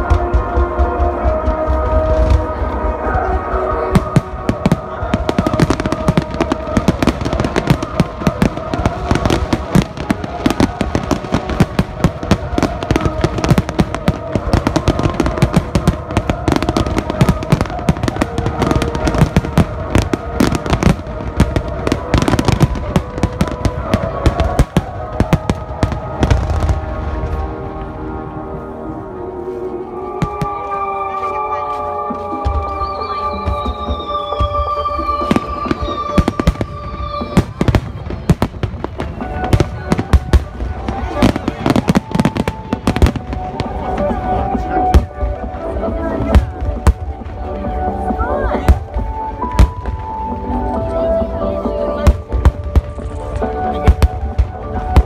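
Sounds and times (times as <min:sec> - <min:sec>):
fireworks bangs and crackles: 0:00.0 - 0:28.5, 0:30.1 - 0:30.9, 0:31.9 - 0:55.0
background music: 0:00.0 - 0:55.0.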